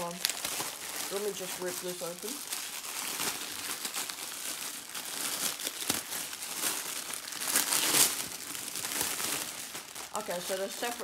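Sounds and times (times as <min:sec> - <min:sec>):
plastic bag crinkling and ripping: 0:00.0 - 0:11.0.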